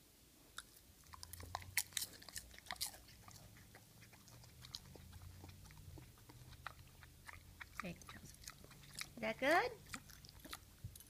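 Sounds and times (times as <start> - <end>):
low steady hum: 0.0 - 11.0
cat crunching popcorn: 0.5 - 11.0.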